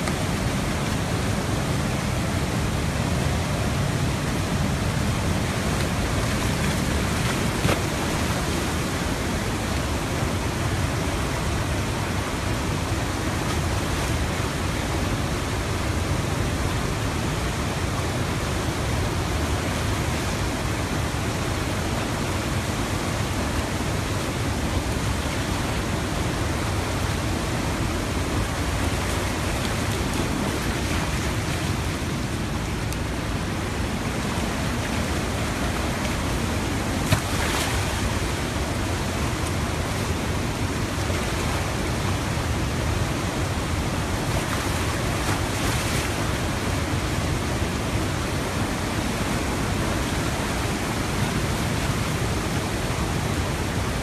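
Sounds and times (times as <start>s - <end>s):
flooded river rushing: 0.0s - 54.0s.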